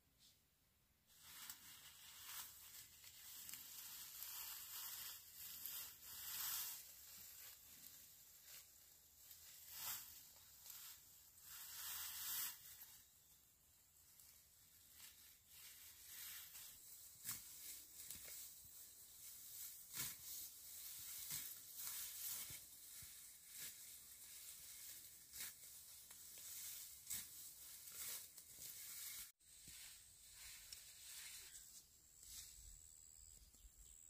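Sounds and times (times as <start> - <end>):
grass swishing and ripping: 1.2 - 13.1, 14.8 - 32.6.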